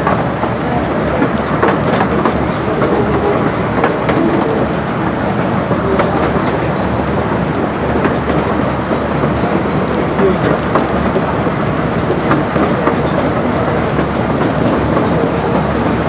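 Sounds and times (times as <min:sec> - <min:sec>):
train wheels rumbling on rail: 0:00.0 - 0:16.0
wheels clicking over rail joints: 0:00.0 - 0:16.0.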